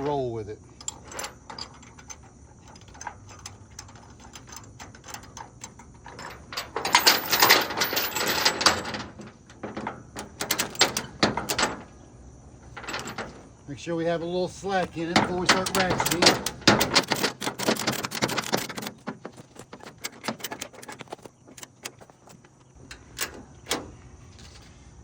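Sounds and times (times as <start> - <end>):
metal hardware clinking and rattling: 0.0 - 13.7, 14.4 - 24.0.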